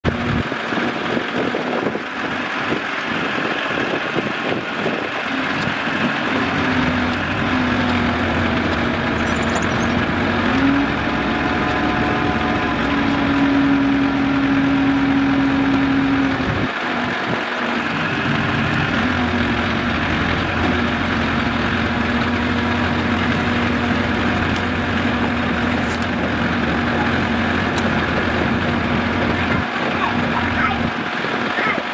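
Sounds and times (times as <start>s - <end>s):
truck engine running: 0.0s - 31.9s
crane hydraulic hum: 0.1s - 31.4s.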